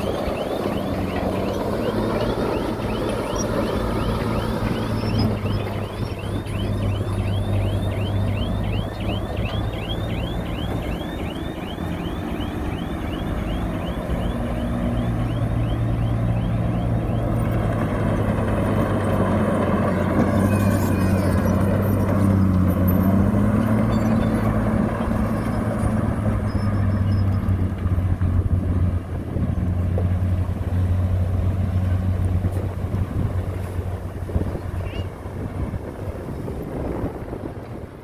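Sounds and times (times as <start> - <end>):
diesel machinery engine hum: 0.0 - 38.0.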